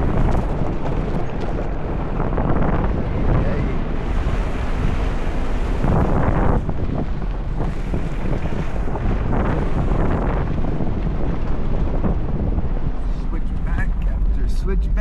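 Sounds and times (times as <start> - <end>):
car engine and road noise: 0.0 - 15.0
wind buffeting microphone: 0.0 - 15.0.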